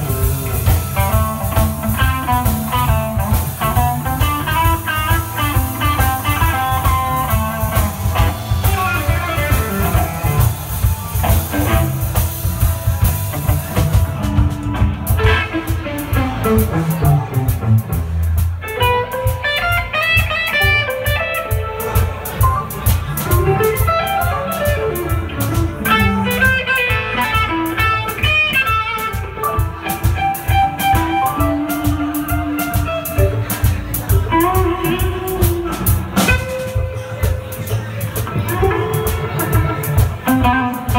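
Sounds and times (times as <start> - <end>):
blues band playing: 0.0 - 40.9
electric guitar lead lines: 0.0 - 40.9.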